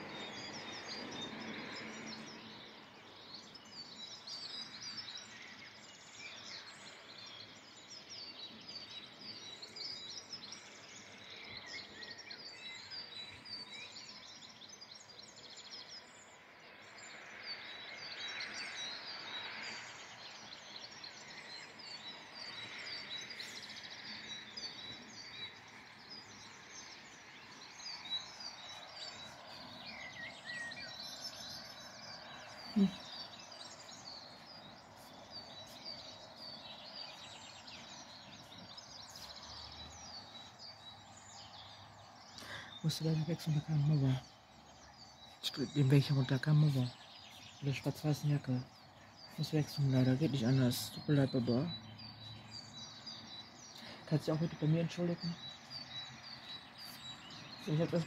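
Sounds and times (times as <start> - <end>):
outdoor background rush: 0.0 - 58.0
songbirds chirping and singing: 0.0 - 58.0.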